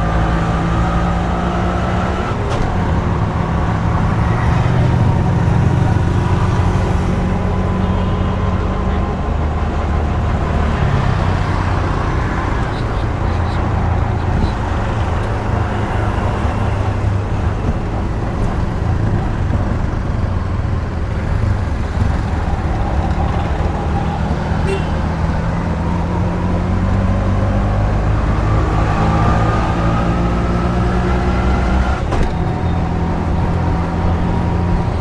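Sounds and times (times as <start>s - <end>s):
vehicle engines running: 0.0s - 35.0s.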